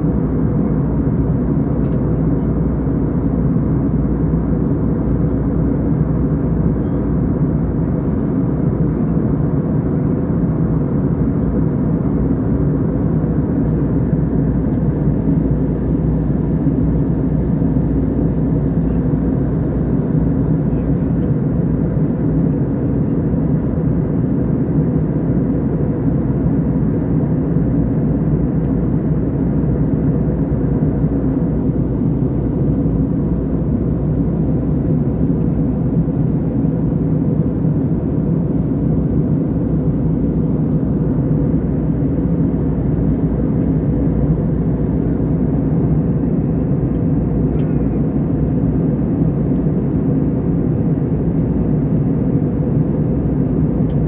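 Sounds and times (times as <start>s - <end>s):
aeroplane cabin engine drone: 0.0s - 54.0s.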